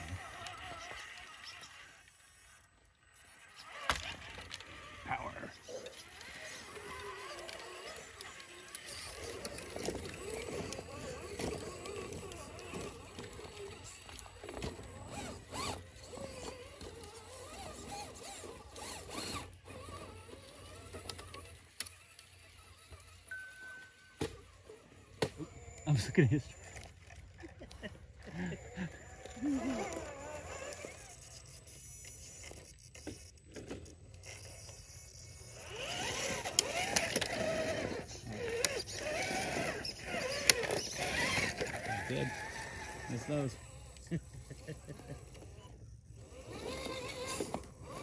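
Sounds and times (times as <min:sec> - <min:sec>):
small electric motor whining: 0:00.0 - 0:48.0.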